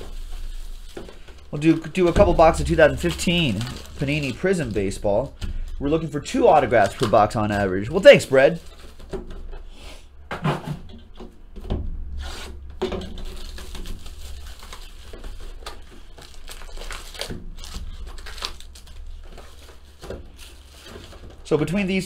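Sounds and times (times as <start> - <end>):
foil packs rustling and scraping: 0.0 - 10.2, 12.1 - 22.0.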